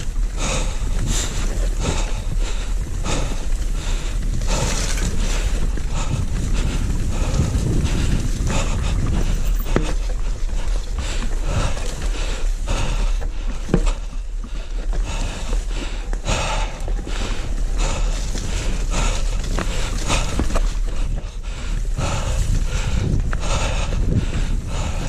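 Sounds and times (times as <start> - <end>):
bike knocks and rattles: 0.0 - 25.0
bike tyres rumbling: 0.0 - 25.0
wind rushing over microphone: 0.0 - 25.0.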